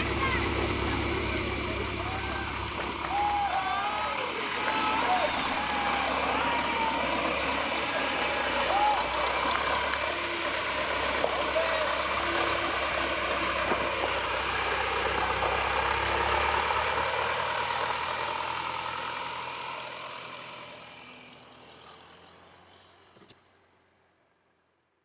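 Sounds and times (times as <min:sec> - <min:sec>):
vehicle engine running: 0:00.0 - 0:23.3.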